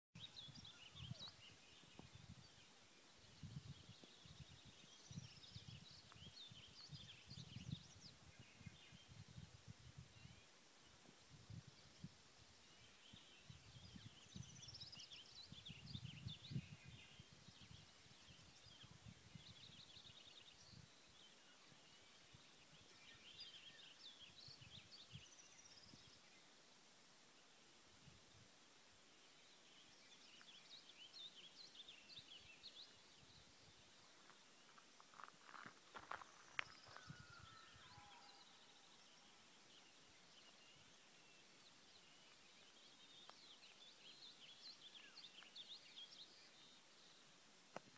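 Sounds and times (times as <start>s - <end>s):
faint birdsong: 0.2s - 47.9s.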